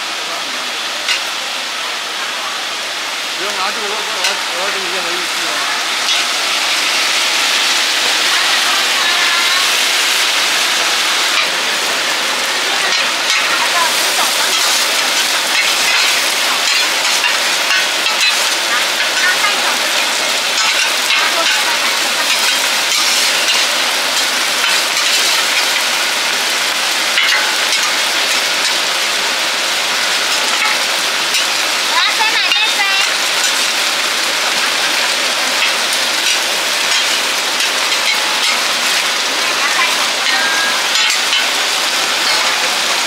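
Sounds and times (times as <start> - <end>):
food sizzling on a griddle: 0.0 - 43.0.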